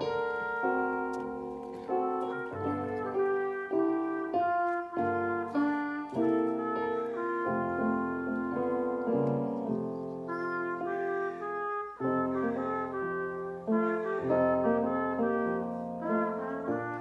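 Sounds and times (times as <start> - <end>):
piano accompaniment: 0.0 - 17.0
solo melody instrument: 0.0 - 17.0.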